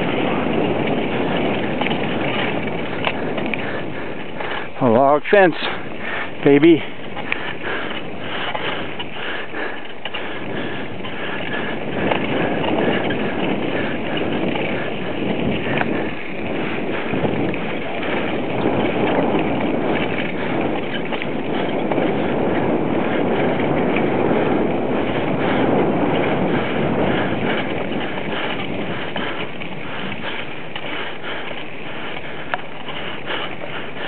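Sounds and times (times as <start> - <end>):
bicycle rattles and bumps: 0.0 - 34.0
bicycle tyres on dirt trail: 0.0 - 34.0
wind on microphone: 0.0 - 34.0.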